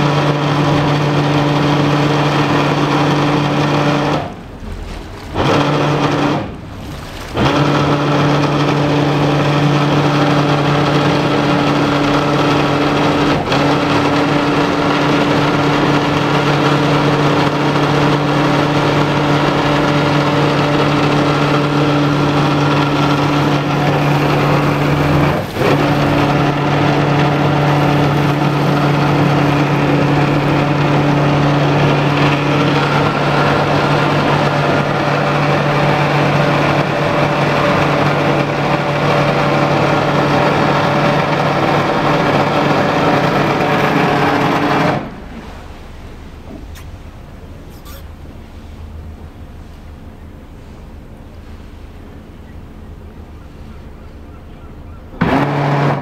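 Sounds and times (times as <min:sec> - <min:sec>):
boat diesel engines droning: 0:00.0 - 0:56.0.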